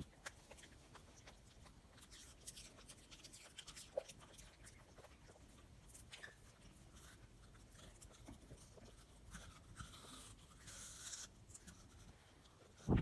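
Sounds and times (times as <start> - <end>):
puppy crunching apple: 0.0 - 13.0.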